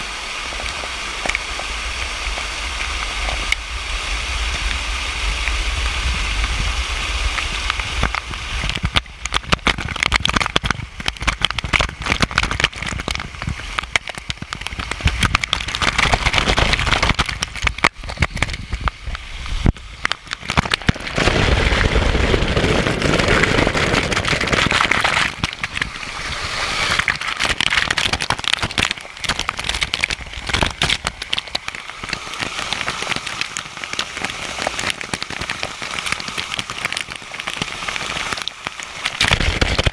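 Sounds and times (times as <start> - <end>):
falling water splashing: 0.0 - 39.9
crackling drop hits: 7.2 - 39.9.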